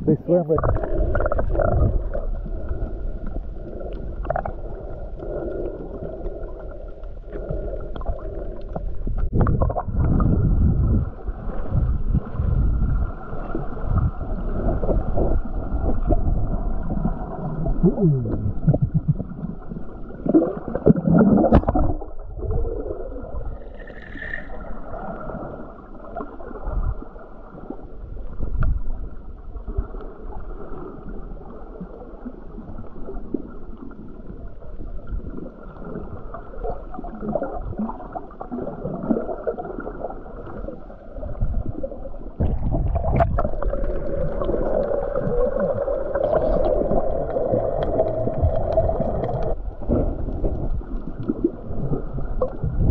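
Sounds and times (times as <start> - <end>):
muffled underwater bubbling: 0.0 - 27.7, 28.8 - 52.9.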